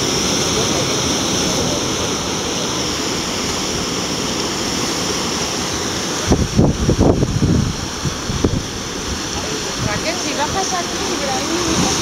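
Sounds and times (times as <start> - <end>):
rough sea surf breaking: 0.0 - 12.0.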